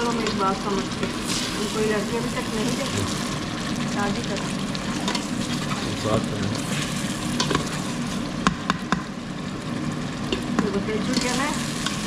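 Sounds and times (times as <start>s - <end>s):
sauce sizzling in oil: 0.0s - 12.0s.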